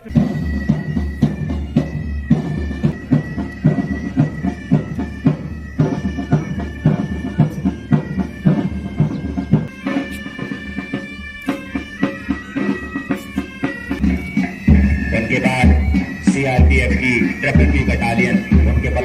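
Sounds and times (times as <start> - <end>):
bagpipes playing a march: 0.0 - 19.0
drum beat: 0.0 - 19.0.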